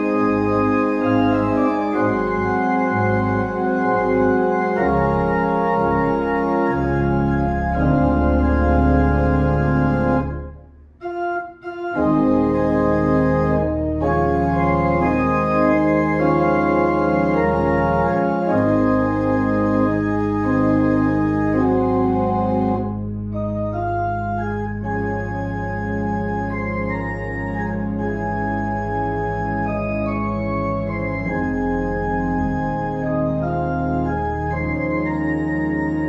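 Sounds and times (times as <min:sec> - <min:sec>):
low organ pedal note: 0:00.0 - 0:36.0
pipe organ chords: 0:00.0 - 0:36.0.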